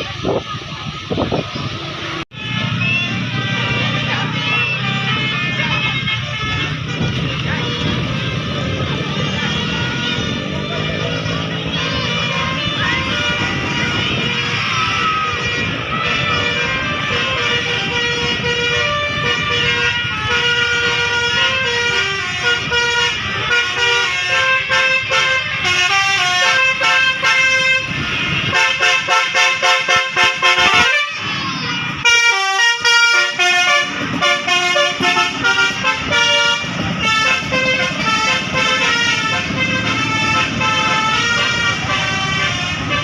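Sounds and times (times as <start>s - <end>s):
multi-tone bus horn melody: 1.6s - 43.0s.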